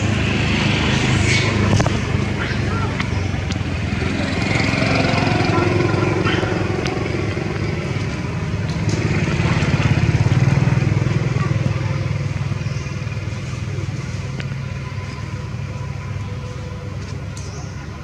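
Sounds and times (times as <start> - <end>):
small engine rumbling: 0.0 - 18.0.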